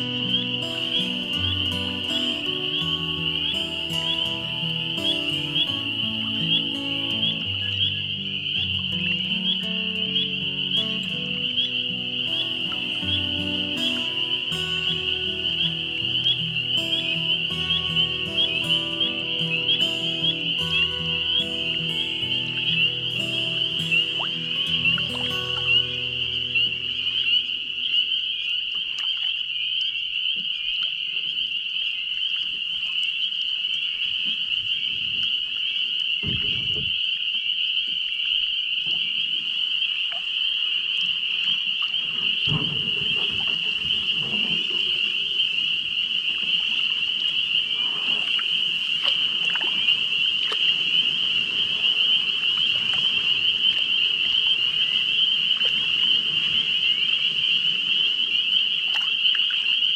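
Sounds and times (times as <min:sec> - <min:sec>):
frogs trilling chorus: 0:00.0 - 0:59.9.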